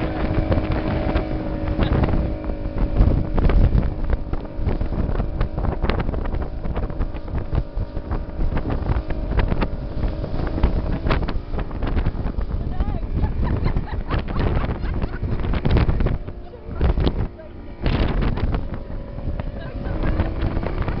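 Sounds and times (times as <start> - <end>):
hull knocking on waves: 0.0 - 21.0
speedboat motor droning: 0.0 - 21.0
water rushing along hull: 0.0 - 21.0
wind buffeting microphone: 0.0 - 21.0.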